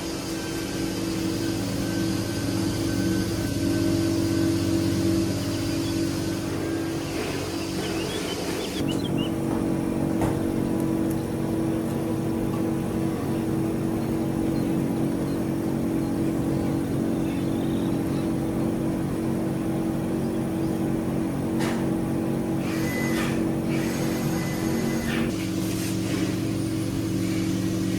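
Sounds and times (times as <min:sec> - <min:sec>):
steady mechanical hum: 0:00.0 - 0:27.9.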